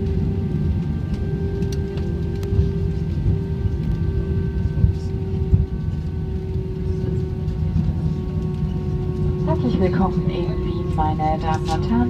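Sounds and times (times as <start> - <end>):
aircraft engine hum: 0.0 - 12.0
wheels and airframe rumble: 0.0 - 12.0.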